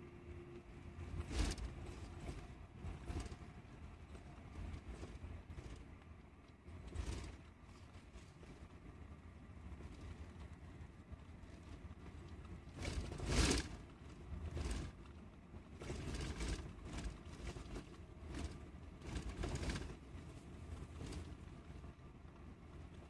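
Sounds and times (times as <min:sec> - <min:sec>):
bus road noise rumble: 0:00.0 - 0:23.0.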